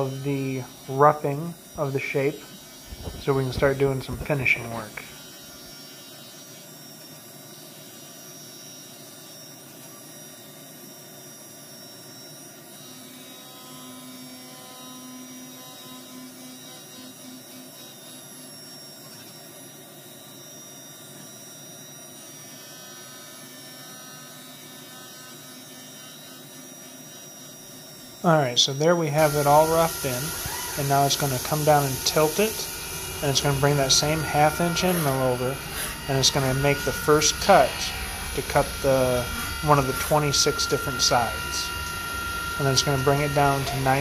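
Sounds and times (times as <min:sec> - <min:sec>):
milling machine hum: 0:00.0 - 0:44.0.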